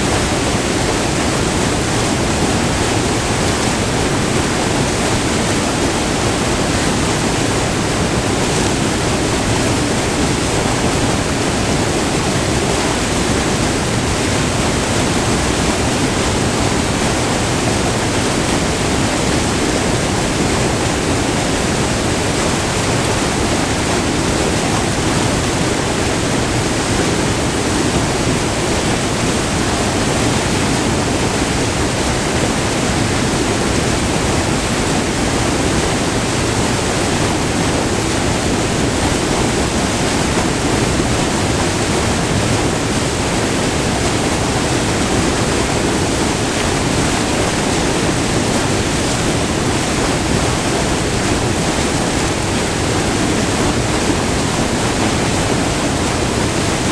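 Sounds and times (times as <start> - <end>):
waterfall rushing over rock: 0.0 - 56.9.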